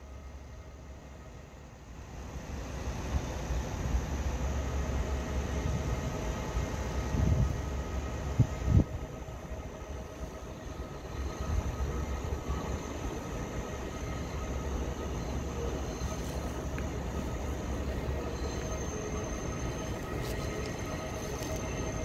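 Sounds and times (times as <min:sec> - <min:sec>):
faint steady whine: 0:00.0 - 0:22.0
train low rumble: 0:00.0 - 0:22.0.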